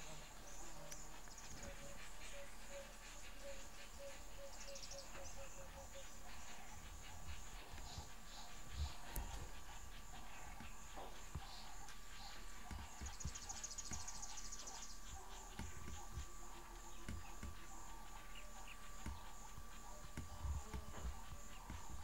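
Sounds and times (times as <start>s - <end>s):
high-pitched insect chorus: 0.0s - 22.0s
rapid insect trill: 0.0s - 22.0s.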